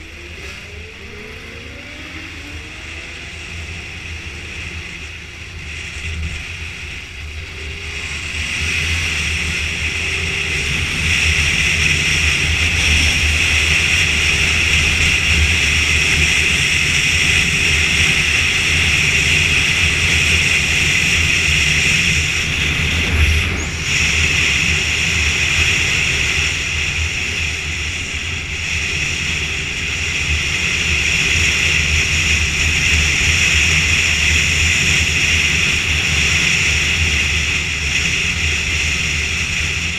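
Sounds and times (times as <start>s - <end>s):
motorcycle engine: 0.0s - 39.9s
road noise: 0.0s - 39.9s.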